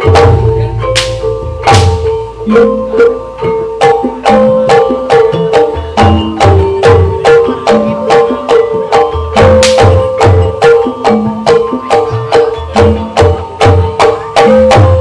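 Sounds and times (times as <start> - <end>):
low hand drum beats: 0.0 - 15.0
struck tuned percussion ringing: 0.0 - 15.0.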